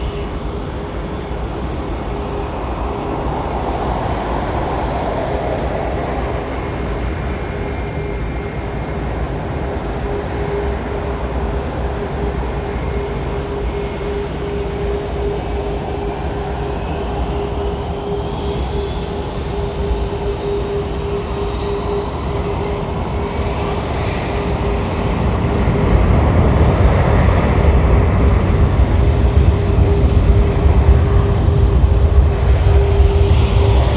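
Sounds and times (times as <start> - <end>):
jet engine whine rising: 0.0 - 33.9
jet engines rumbling: 0.0 - 33.9.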